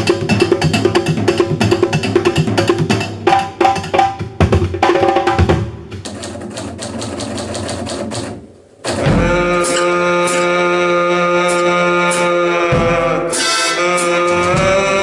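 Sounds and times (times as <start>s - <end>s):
drum kit strokes: 0.0s - 15.0s
drums and metal bowls percussion: 0.0s - 15.0s.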